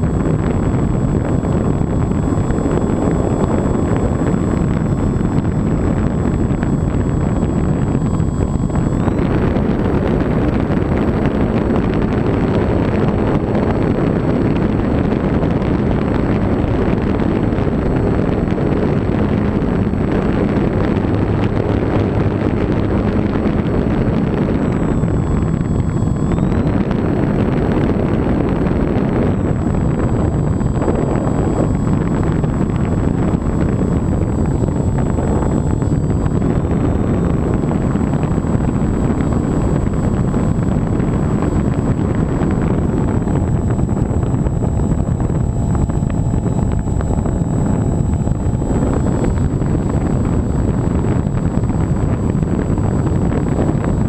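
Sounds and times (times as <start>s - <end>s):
electric motor and propeller whining: 0.0s - 54.0s
wind rush on microphone: 0.0s - 54.0s.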